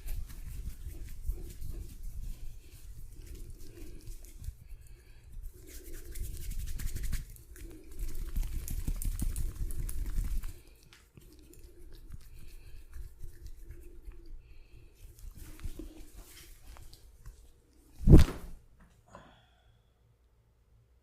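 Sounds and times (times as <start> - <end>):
hands rubbing skin and hair: 0.0 - 18.6.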